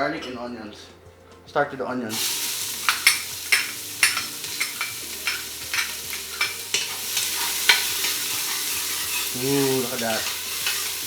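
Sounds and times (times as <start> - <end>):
onions sizzling in fat: 2.1 - 11.0
utensil scraping a pan: 2.1 - 11.0.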